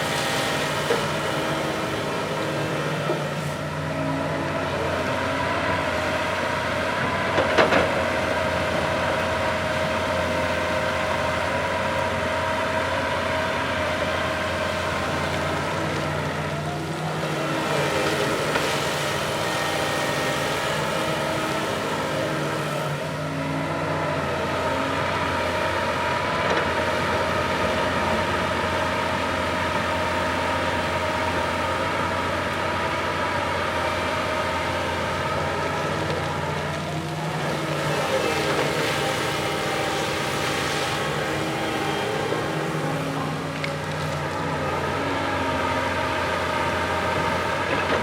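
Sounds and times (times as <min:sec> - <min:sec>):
diesel engine under load: 0:00.0 - 0:48.0.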